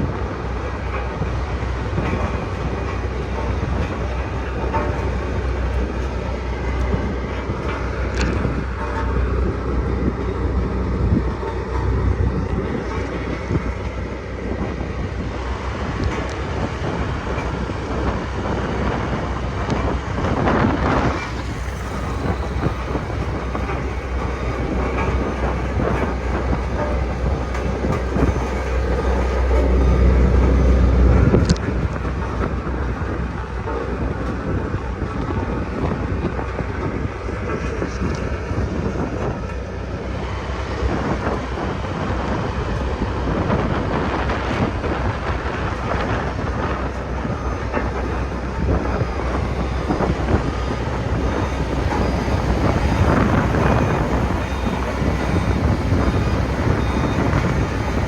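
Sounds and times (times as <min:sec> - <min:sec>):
road roller rumble: 0:00.0 - 0:58.0.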